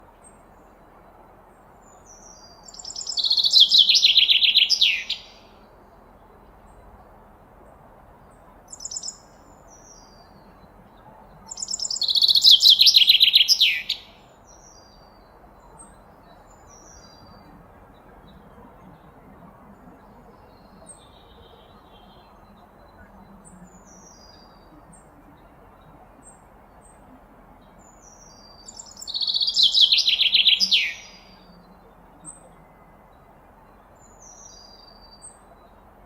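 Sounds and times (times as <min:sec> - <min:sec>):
soft high bird calls: 0:01.7 - 0:07.0, 0:08.3 - 0:35.9.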